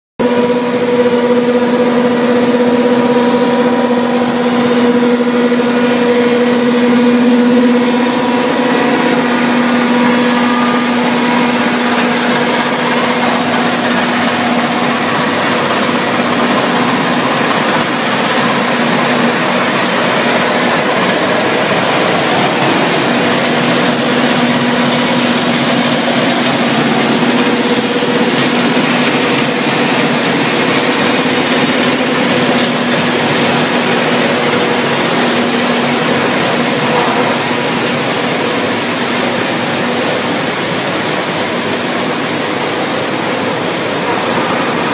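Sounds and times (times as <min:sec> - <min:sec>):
wood chipper running: 0:00.2 - 0:44.9.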